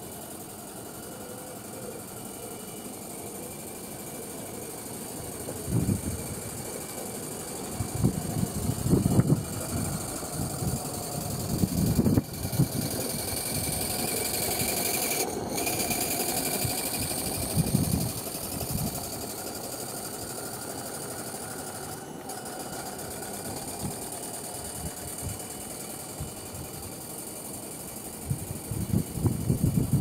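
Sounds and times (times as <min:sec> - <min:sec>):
model steam engine chuffing: 0:00.0 - 0:30.0.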